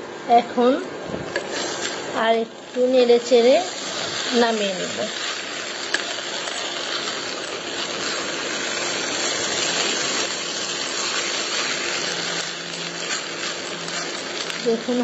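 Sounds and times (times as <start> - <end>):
rice sizzling in a pan: 1.4 - 15.0.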